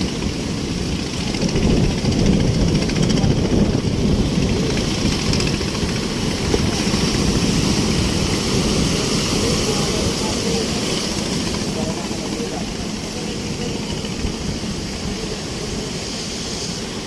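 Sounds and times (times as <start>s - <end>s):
rushing noise: 0.0s - 17.0s.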